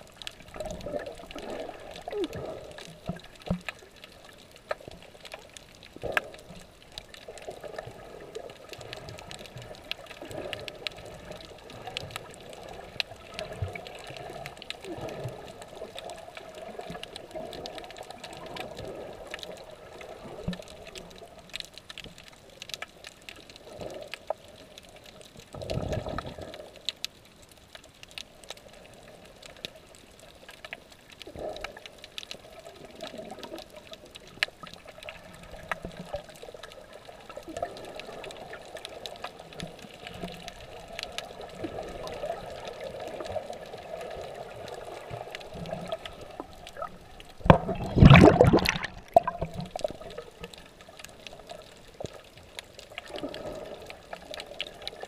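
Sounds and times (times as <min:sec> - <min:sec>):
faint clicks: 0:00.0 - 0:47.8, 0:49.2 - 0:55.0
muffled underwater water noise: 0:00.0 - 0:55.0
rushes of water: 0:00.0 - 0:55.0.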